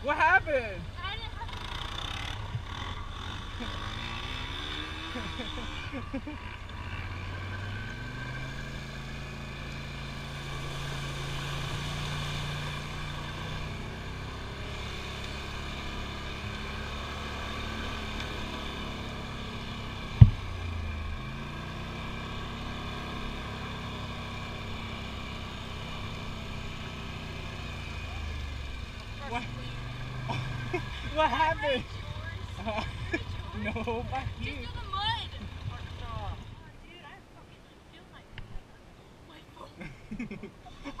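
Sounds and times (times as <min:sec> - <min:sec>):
dirt bike engine: 0:00.0 - 0:37.4.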